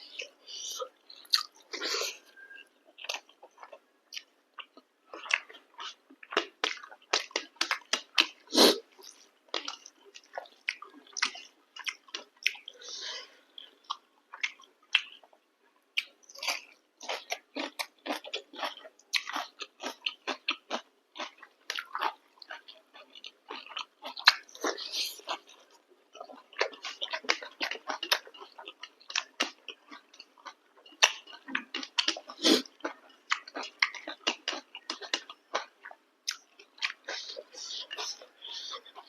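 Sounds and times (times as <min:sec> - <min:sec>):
wet chewing and smacking: 0:01.1 - 0:01.8, 0:02.4 - 0:12.9, 0:13.5 - 0:39.0.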